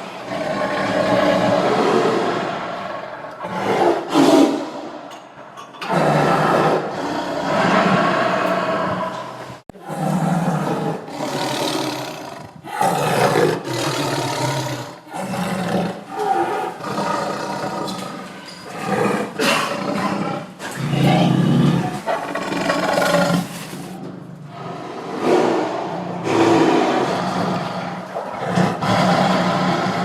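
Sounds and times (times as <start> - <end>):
tiger roaring: 0.0 - 5.0, 5.8 - 30.0.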